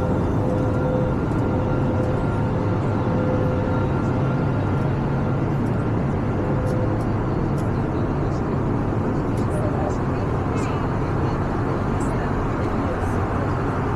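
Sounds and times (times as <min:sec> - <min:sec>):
airplane cabin noise: 0:00.0 - 0:13.9.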